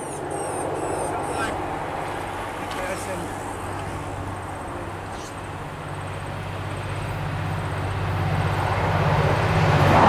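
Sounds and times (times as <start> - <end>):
locomotive engine low drone: 0.0 - 10.0.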